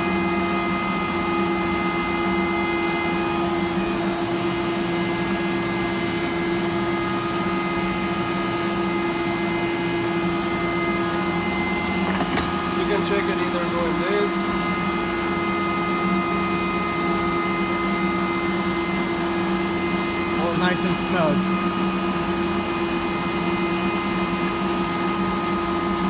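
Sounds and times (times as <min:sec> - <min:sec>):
electric motor hum and whine: 0:00.0 - 0:26.0.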